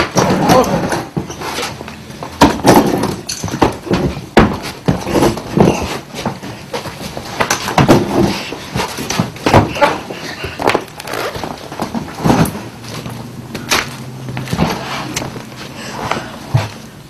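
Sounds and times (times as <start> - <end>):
irregular thuds and knocks: 0.0 - 16.9.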